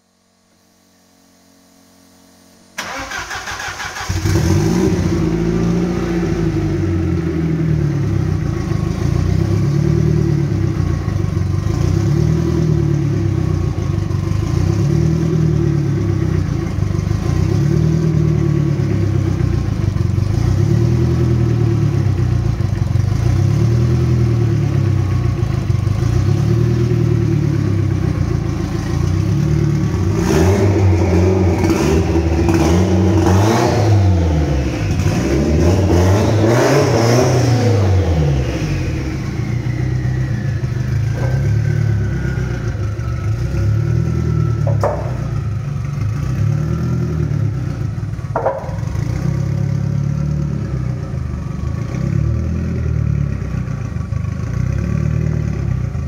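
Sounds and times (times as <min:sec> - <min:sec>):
car engine starting and idling: 0:01.9 - 0:56.0.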